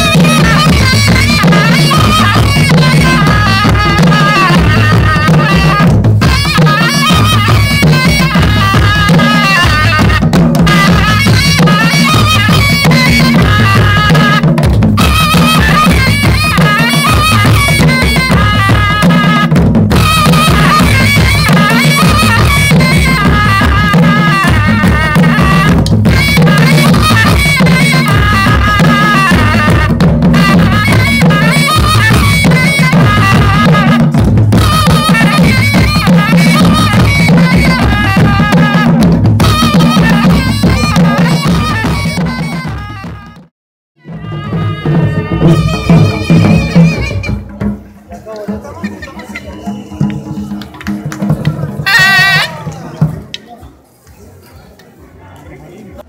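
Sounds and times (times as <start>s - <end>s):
drum beat: 0.0s - 53.4s
shawm melody: 0.0s - 55.0s.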